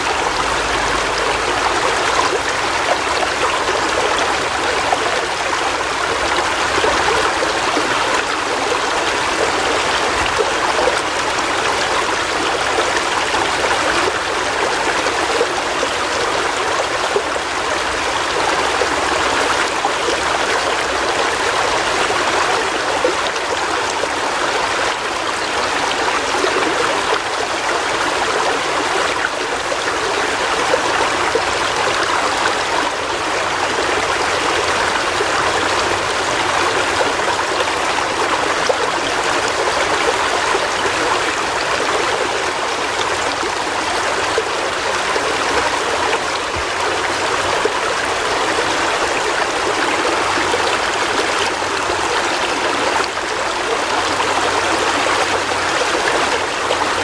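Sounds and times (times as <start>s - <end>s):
river water splashing over rocks: 0.0s - 57.0s.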